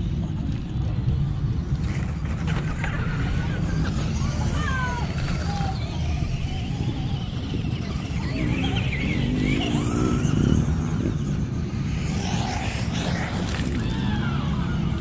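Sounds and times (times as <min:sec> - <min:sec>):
rc car motors whining: 0:00.2 - 0:15.0.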